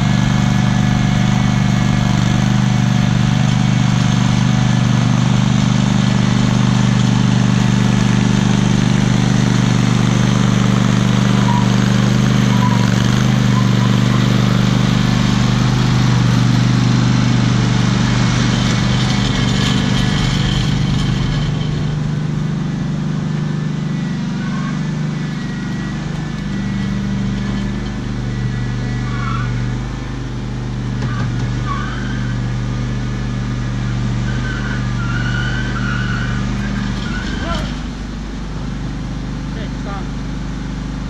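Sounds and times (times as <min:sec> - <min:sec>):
riding lawn mower engine running: 0:00.0 - 0:41.0.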